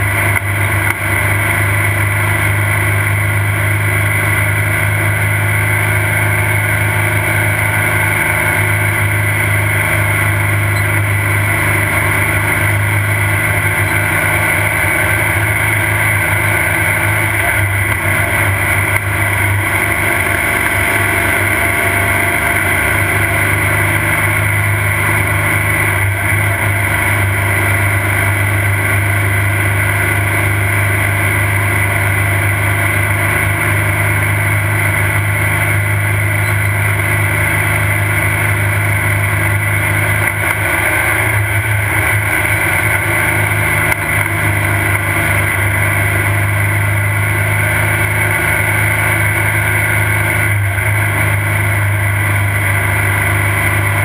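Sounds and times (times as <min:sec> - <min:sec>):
race car engine running: 0:00.0 - 0:54.0.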